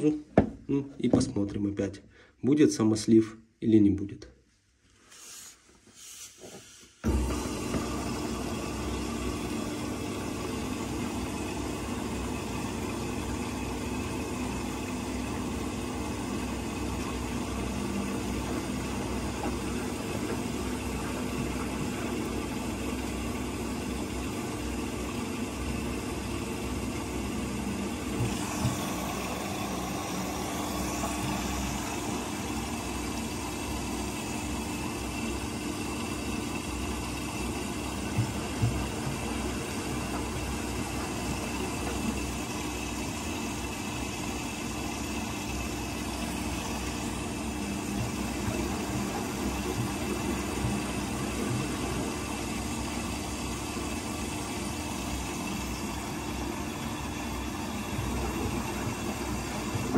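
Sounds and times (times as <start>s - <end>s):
water rushing into washing machine: 5.3s - 59.9s.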